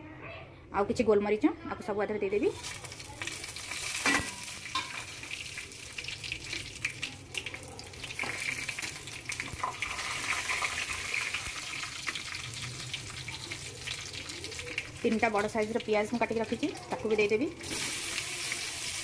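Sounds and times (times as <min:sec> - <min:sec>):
spices sizzling in hot oil: 0:02.4 - 0:19.0.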